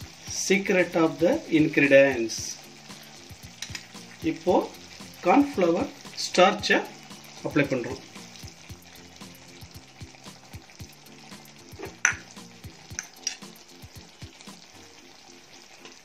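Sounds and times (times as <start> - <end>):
crabs sizzling in a pan: 0.0 - 16.0.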